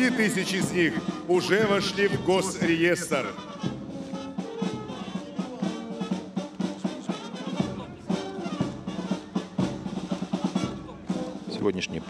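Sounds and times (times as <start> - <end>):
brass band playing a march: 0.0 - 12.0
steady drum beat: 0.0 - 12.0.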